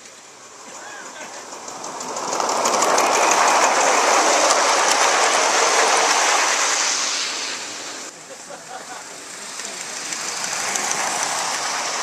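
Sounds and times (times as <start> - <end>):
model train wheels clattering: 0.0 - 7.4, 8.6 - 12.0.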